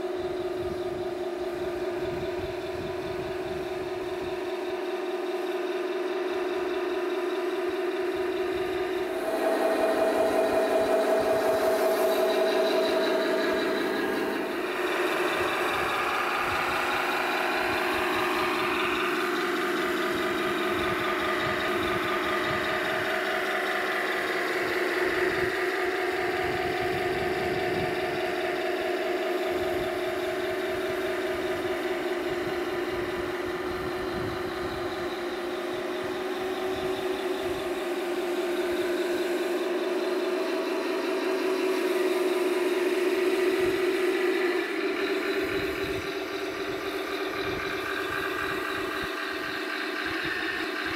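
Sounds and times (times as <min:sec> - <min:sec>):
simulated tank engine from speaker: 0:00.0 - 0:50.9.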